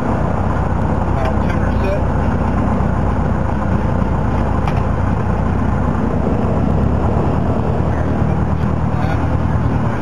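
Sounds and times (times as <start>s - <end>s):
airplane piston engine and propeller: 0.0s - 10.0s.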